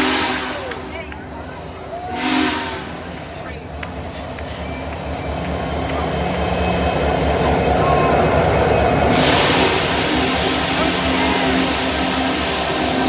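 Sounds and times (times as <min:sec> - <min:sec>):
train rolling past: 0:00.0 - 0:13.0.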